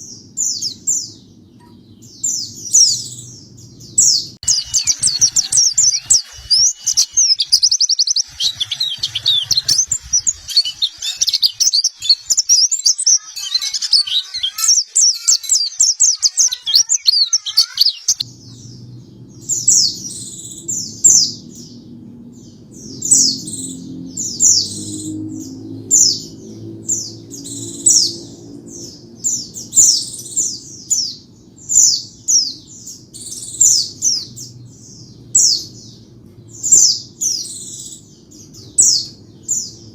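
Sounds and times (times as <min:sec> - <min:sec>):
steady low hum: 0:00.0 - 0:14.5, 0:18.2 - 0:39.9
bird twittering and chirping: 0:00.0 - 0:39.9.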